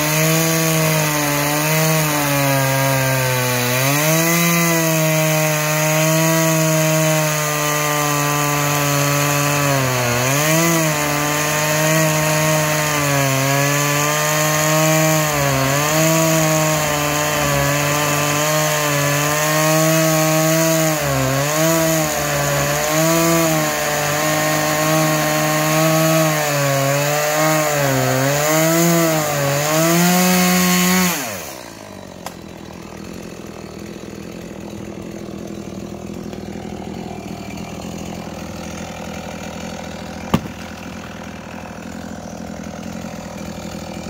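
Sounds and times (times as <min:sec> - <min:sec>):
chainsaw cutting through log: 0:00.0 - 0:44.0.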